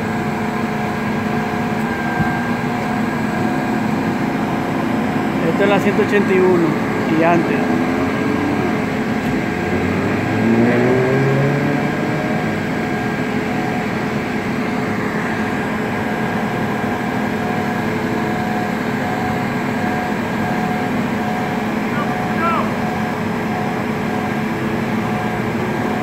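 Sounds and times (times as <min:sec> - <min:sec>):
heavy vehicle engines idling: 0:00.0 - 0:26.0.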